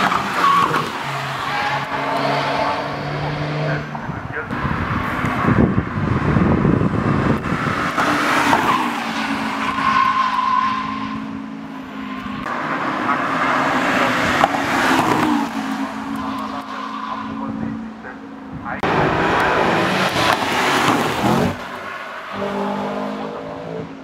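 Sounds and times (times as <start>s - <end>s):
tyres squealing: 0.0s - 4.1s, 7.9s - 24.0s
racing car engine at high revs: 0.0s - 24.0s.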